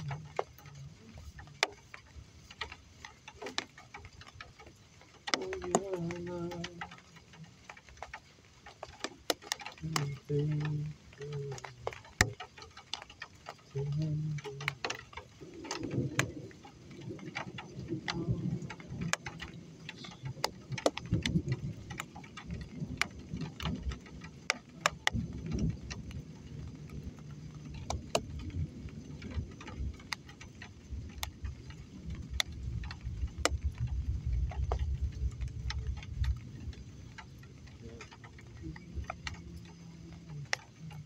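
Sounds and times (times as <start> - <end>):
low uneven rumble: 0.0 - 41.0
raindrops ticking on hard surface: 0.0 - 41.0.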